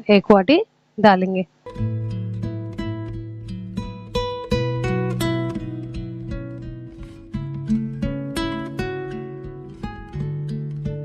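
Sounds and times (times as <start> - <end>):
acoustic guitar playing: 1.6 - 11.0.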